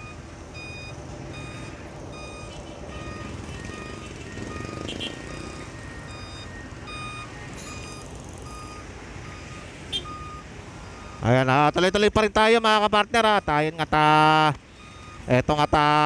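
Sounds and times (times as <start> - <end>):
idling diesel engines: 0.0 - 16.0
reversing alarms beeping: 0.0 - 16.0.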